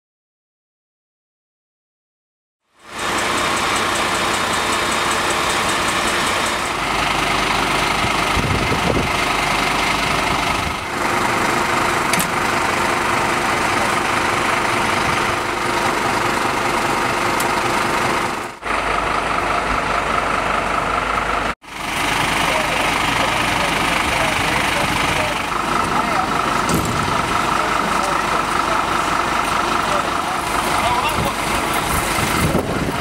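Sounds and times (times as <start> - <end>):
vehicle engine idling: 2.7 - 33.0.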